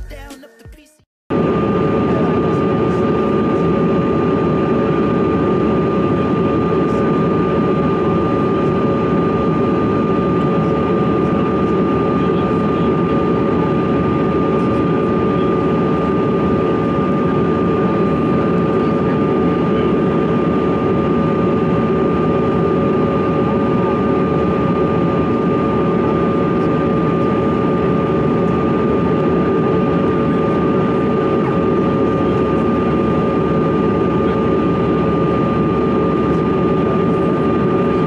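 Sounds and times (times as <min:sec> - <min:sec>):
jet cabin airflow and engine rush: 0:01.3 - 0:38.0
steady high whine: 0:01.3 - 0:38.0.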